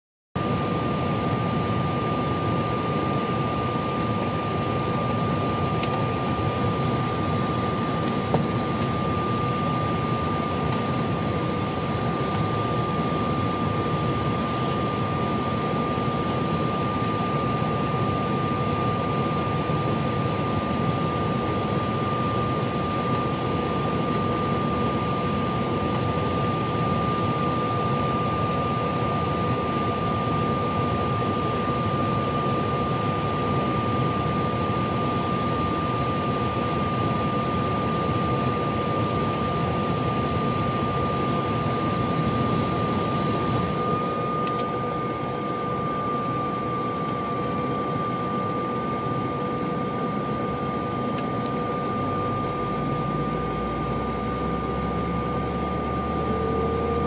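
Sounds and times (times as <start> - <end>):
constant high whine: 0.4 - 57.0.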